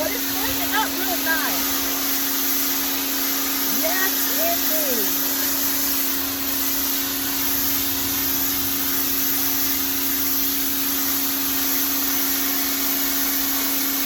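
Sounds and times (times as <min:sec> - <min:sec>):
machine humming: 0:00.0 - 0:13.5
pressure washer jet hissing: 0:00.0 - 0:14.0.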